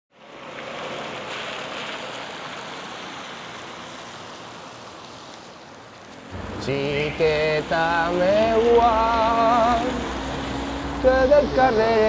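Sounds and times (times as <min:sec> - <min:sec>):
distant traffic noise: 0:00.1 - 0:12.0.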